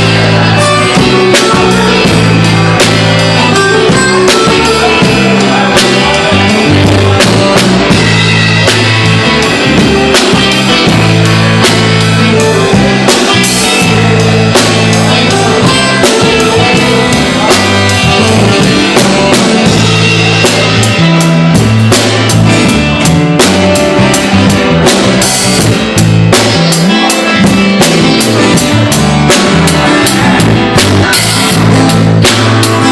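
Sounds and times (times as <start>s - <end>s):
drum kit beat: 0.0s - 32.9s
guitars: 0.0s - 32.9s
sustained bass notes: 0.0s - 32.9s.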